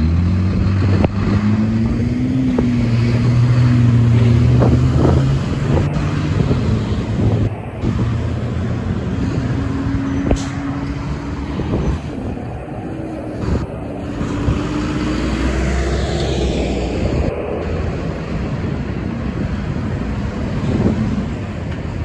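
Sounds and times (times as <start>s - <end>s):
deep truck engine: 0.0s - 22.0s
truck engine and tyre noise: 0.0s - 22.0s.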